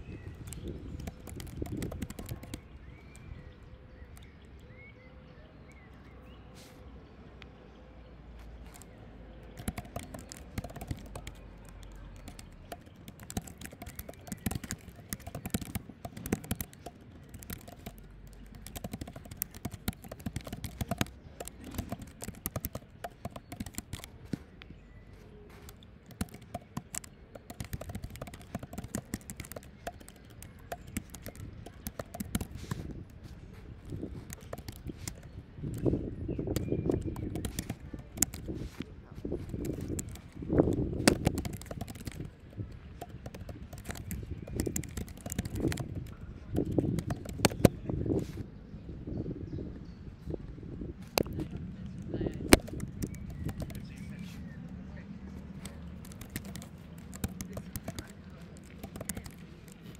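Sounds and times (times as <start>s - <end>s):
typing on a keyboard: 0.0s - 3.3s, 8.6s - 24.5s, 25.5s - 38.8s, 39.4s - 48.4s, 51.1s - 54.4s, 55.3s - 59.9s.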